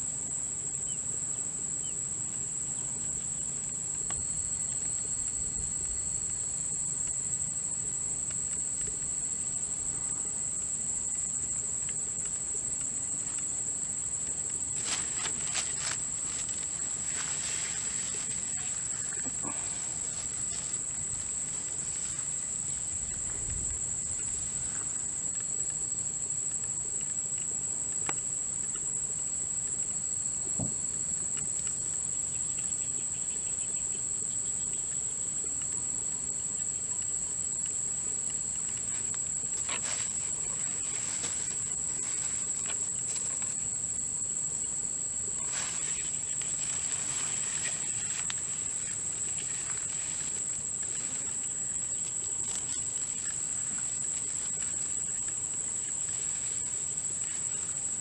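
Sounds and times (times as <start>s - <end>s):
insects trilling: 0.0s - 58.0s
pulsing insect trill: 0.0s - 58.0s.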